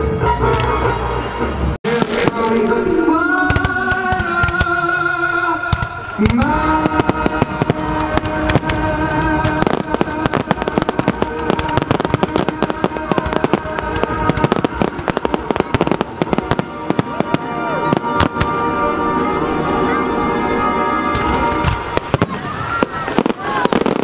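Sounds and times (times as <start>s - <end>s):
music playing: 0.0s - 24.0s
fireworks bangs and crackles: 1.6s - 19.0s, 21.1s - 24.0s.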